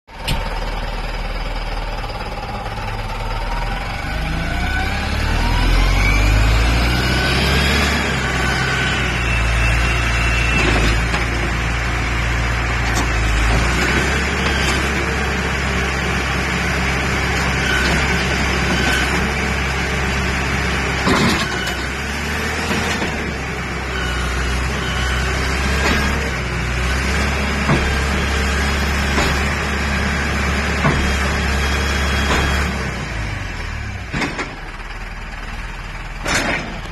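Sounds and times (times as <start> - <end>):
engine running with rising whine: 0.1 - 36.9.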